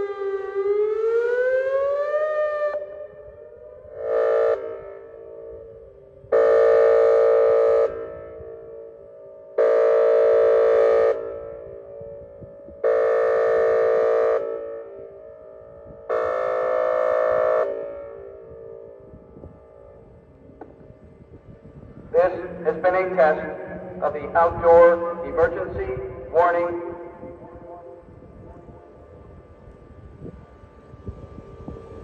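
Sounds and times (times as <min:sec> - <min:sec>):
warning siren airhorn blasts: 0:00.0 - 0:32.0.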